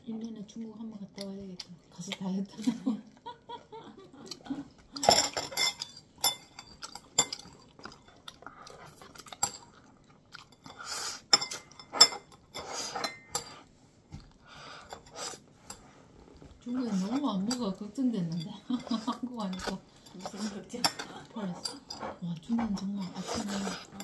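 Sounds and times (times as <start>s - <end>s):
noodles slurped and chewed: 0.2s - 5.4s, 6.1s - 13.5s, 14.1s - 24.0s.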